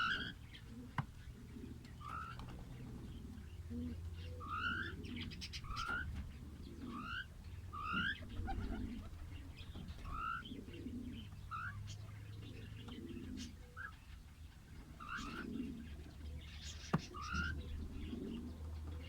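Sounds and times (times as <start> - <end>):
low cooing: 0.0 - 13.9, 15.0 - 16.4, 17.0 - 19.0.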